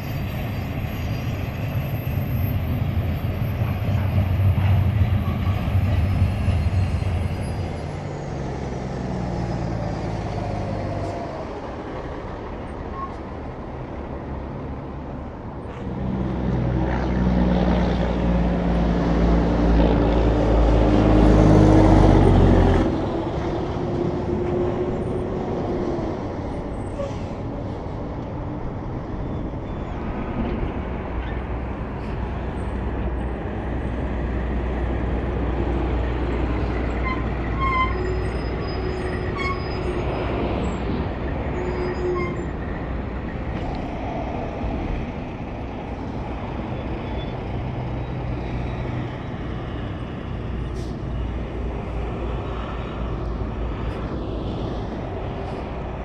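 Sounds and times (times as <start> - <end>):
highway road noise: 0.0 - 56.0
truck diesel engine and tyres: 0.0 - 56.0.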